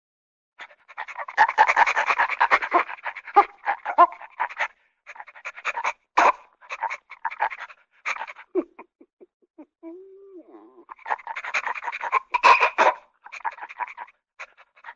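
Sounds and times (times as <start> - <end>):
cartoon dog-like panting: 0.6 - 14.9.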